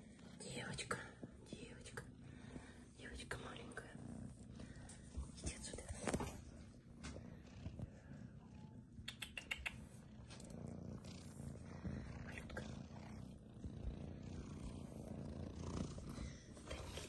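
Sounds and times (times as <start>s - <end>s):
kitten purring: 0.0s - 17.0s.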